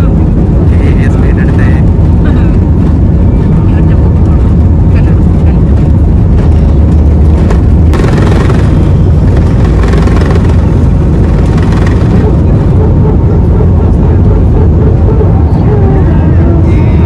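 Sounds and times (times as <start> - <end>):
jet engines rumbling: 0.0 - 17.0
wheels rumbling on runway: 0.0 - 17.0.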